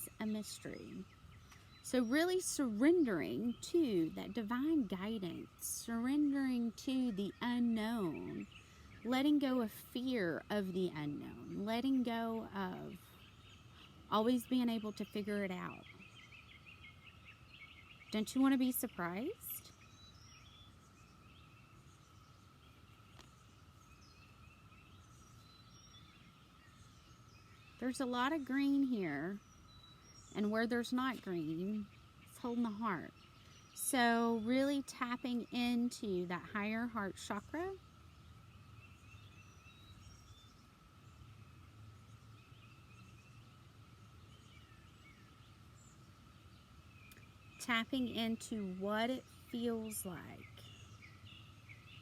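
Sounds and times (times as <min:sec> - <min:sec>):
distant bird chirps: 0:00.0 - 0:52.0.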